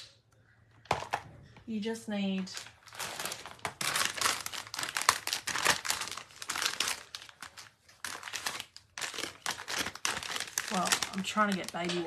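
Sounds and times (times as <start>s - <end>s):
baby wipes rustling and crinkling: 2.3s - 12.0s.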